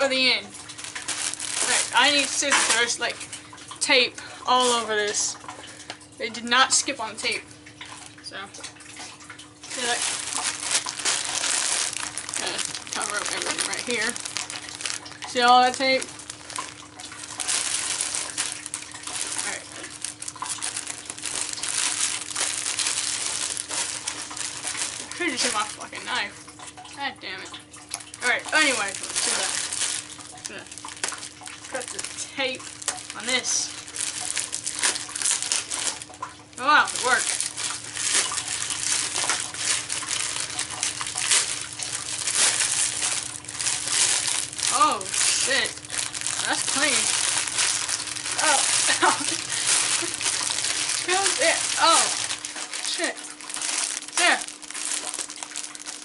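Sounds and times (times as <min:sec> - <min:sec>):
plastic bag crinkling: 0:00.0 - 0:05.5, 0:08.8 - 0:26.7, 0:27.6 - 0:56.0
faint steady hum: 0:00.0 - 0:56.0.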